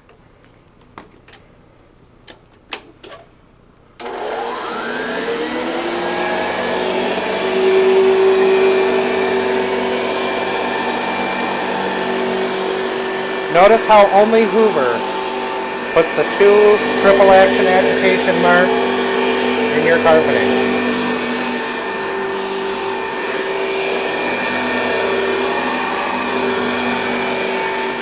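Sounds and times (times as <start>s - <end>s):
vacuum cleaner motor whine: 4.0s - 28.0s.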